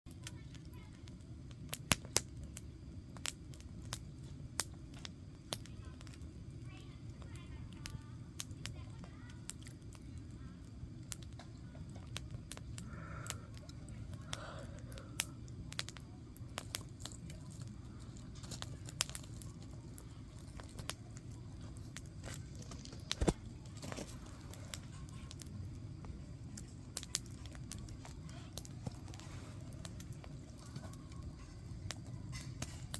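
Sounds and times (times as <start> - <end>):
campfire crackling: 0.1 - 32.9.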